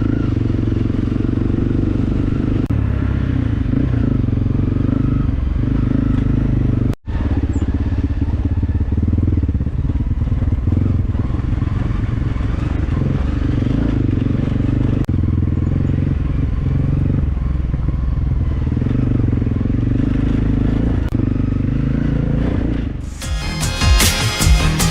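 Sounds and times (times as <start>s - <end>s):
motorcycle engine droning: 0.0s - 24.9s.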